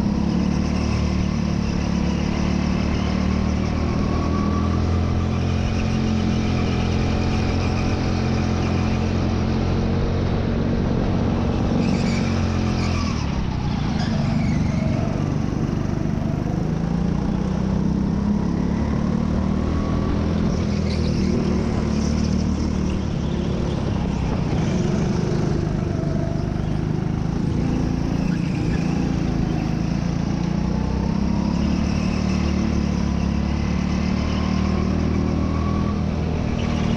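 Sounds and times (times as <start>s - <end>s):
go-kart engine running hard: 0.0s - 36.9s
other go-kart engines: 0.0s - 36.9s.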